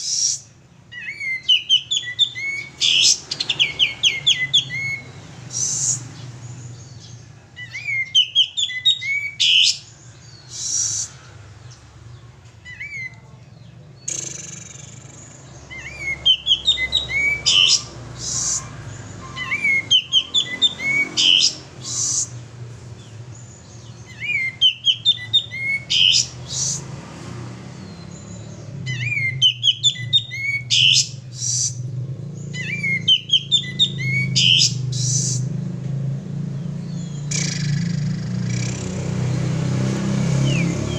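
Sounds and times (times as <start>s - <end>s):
bird singing sliding chirps: 0.0s - 40.9s.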